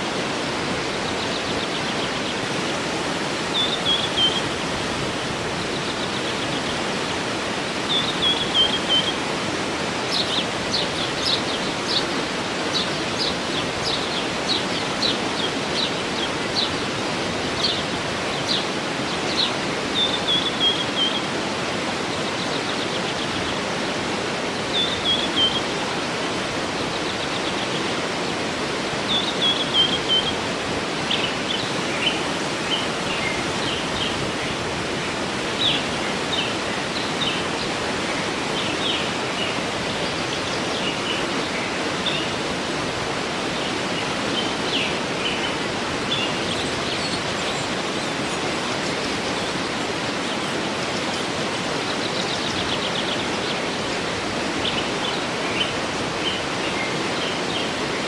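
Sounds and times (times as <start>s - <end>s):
songbird singing: 0.0s - 58.0s
waterfall rushing: 0.0s - 58.0s.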